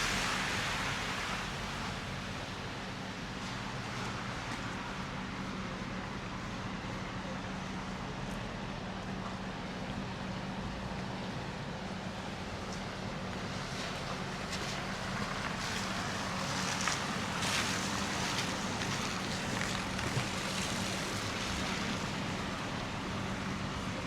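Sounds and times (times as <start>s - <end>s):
street noise hiss: 0.0s - 24.0s
vehicle engine humming: 0.0s - 24.0s.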